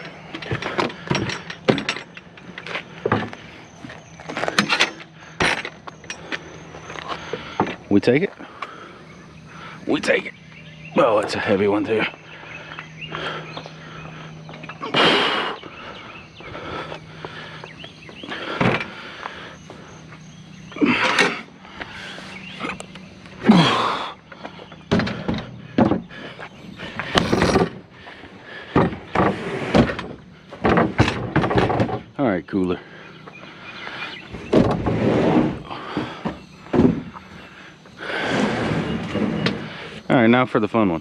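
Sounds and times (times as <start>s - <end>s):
junk thumping and scraping: 0.0s - 8.8s, 11.0s - 40.1s.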